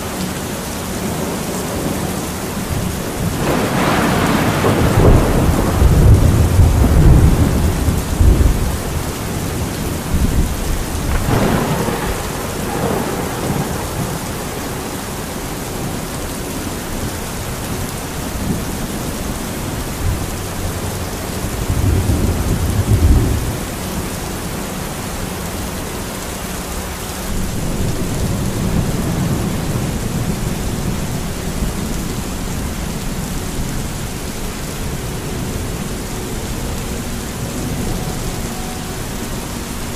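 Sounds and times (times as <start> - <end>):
thunder rumbling: 0.0 - 25.7, 26.6 - 39.9
steady rain: 0.0 - 39.9.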